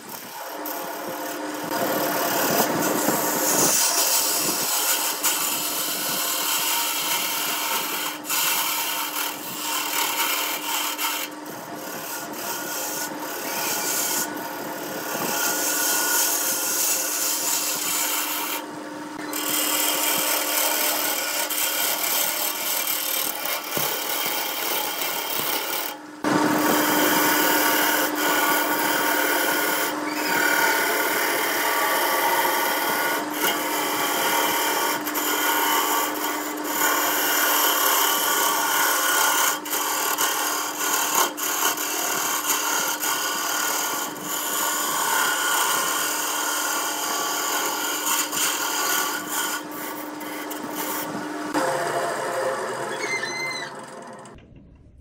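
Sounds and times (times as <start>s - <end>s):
gouge scraping spinning wood: 0.0s - 54.4s
lathe motor hum: 0.0s - 54.4s.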